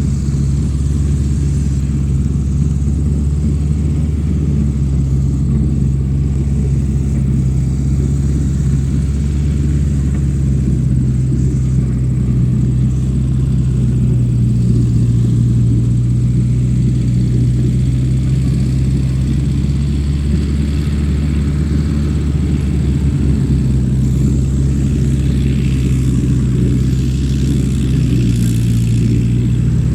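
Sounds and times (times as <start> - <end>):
small motor humming: 0.0 - 29.9.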